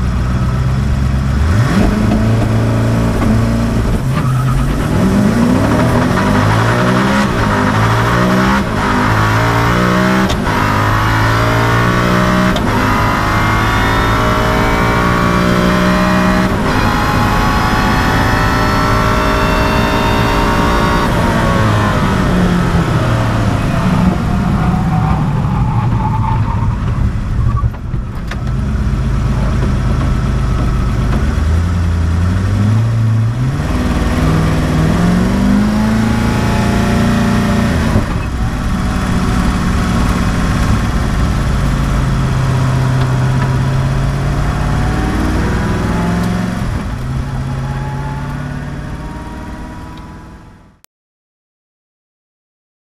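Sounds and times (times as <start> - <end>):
car engine from inside cabin: 0.0 - 25.6, 26.8 - 50.7.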